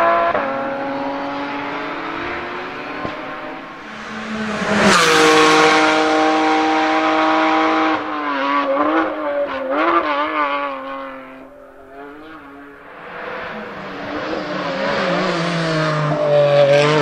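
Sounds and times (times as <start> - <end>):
engine blipping on downshifts: 0.0 - 17.0
sports car engine passing: 0.3 - 17.0.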